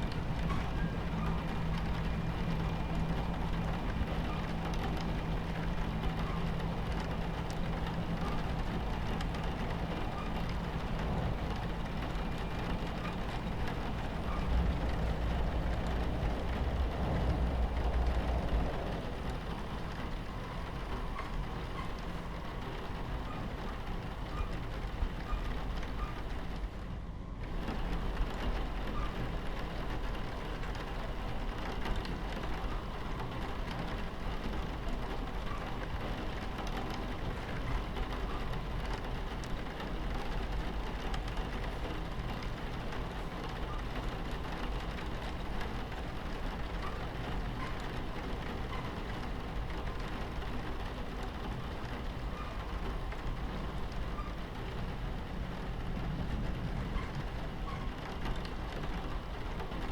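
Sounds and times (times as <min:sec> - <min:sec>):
rain pattering on a window: 0:00.0 - 0:59.9
train rumbling on tracks: 0:00.0 - 0:59.9.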